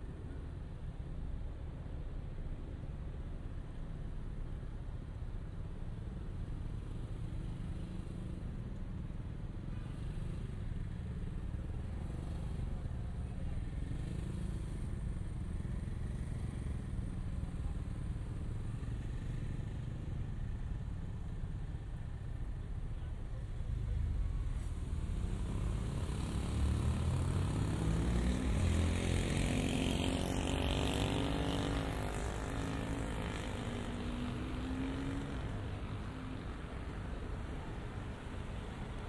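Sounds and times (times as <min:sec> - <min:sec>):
traffic rumble: 0:00.0 - 0:39.0.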